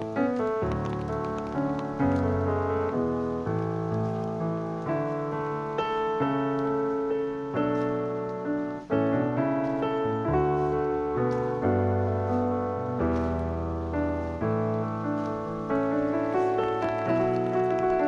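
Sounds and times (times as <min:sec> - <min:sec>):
piano chords: 0:00.0 - 0:18.0.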